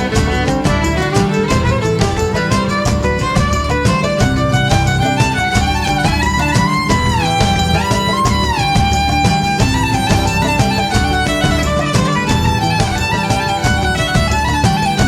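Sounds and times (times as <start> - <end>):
steady beat: 0.0 - 15.0
violin melody: 0.0 - 15.0.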